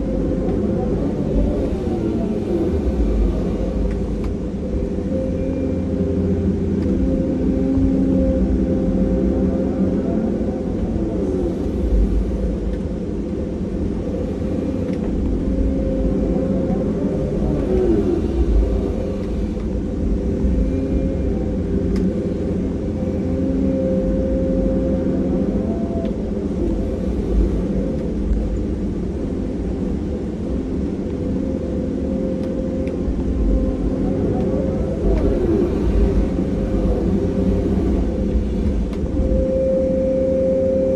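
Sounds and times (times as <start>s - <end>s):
heavy diesel engines rumbling: 0.0s - 40.9s.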